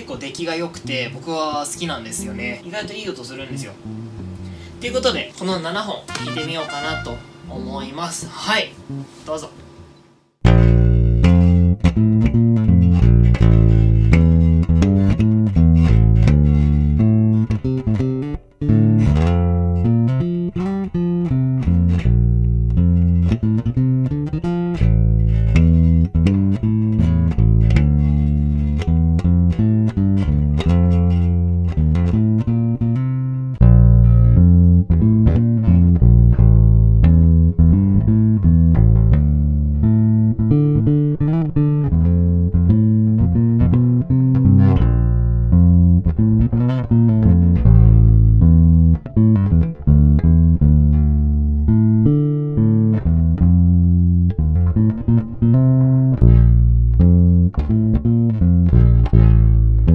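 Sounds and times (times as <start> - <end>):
electric bass bassline: 3.5 - 4.8, 10.4 - 59.9.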